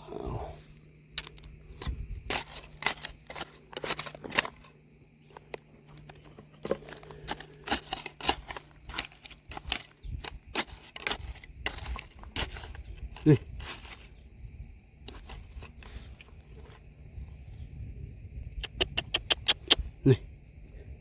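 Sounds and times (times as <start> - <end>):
scraping in gravelly dirt: 0.0 - 21.0.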